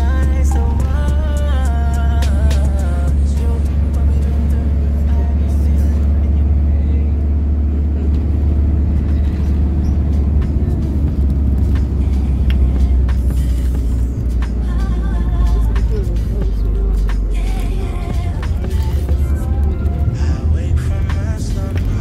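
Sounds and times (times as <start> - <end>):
music playing: 0.0 - 22.0
vehicle rumble from inside: 0.0 - 22.0.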